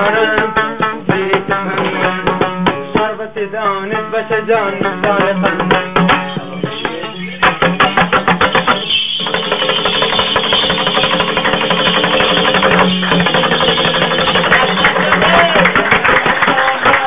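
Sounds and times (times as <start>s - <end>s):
lute strummed very fast: 0.0s - 17.0s.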